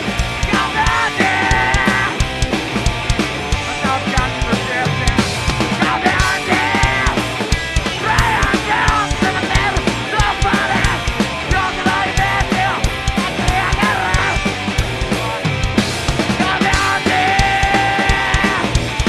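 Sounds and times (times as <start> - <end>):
live punk rock band: 0.0 - 19.0.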